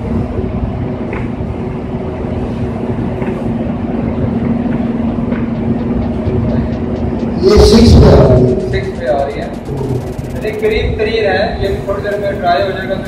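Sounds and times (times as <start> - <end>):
rumbling background noise: 0.0 - 13.0.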